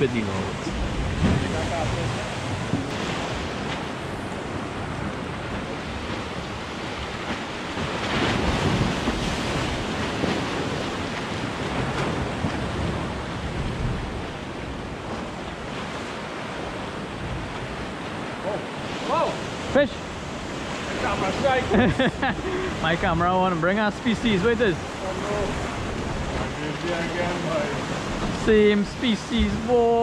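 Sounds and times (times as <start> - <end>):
wind buffeting microphone: 0.0 - 23.4, 24.6 - 30.0
sea waves washing: 0.0 - 30.0.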